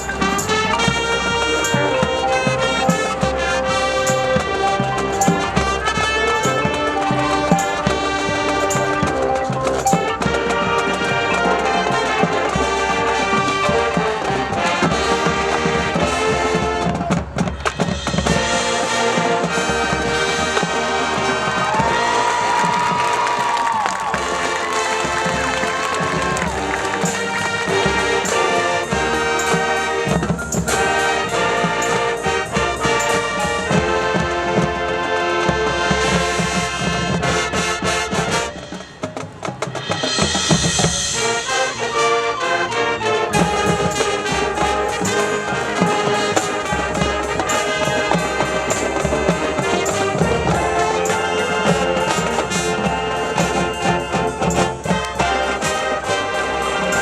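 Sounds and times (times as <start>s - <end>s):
marching band playing: 0.0s - 57.0s
percussion: 0.0s - 57.0s
trumpets and trombones: 0.0s - 57.0s.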